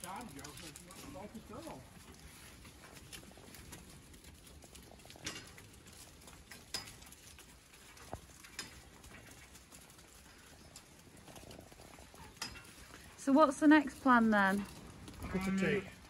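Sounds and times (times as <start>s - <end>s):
hoof patter on concrete: 0.0s - 16.0s.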